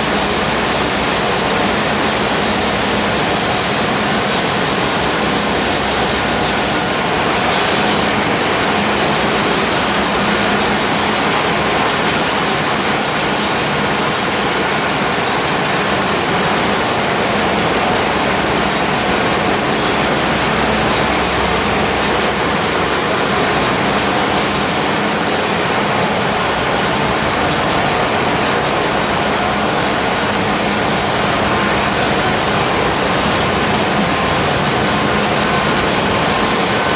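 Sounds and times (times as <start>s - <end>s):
engine-room machinery clattering: 0.0s - 36.9s.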